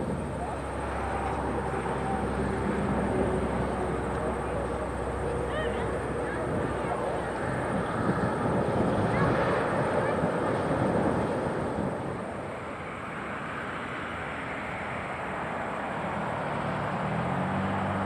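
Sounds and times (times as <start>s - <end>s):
jet aircraft approaching: 0.0s - 18.0s
jet airliner rolling on runway: 0.0s - 18.0s.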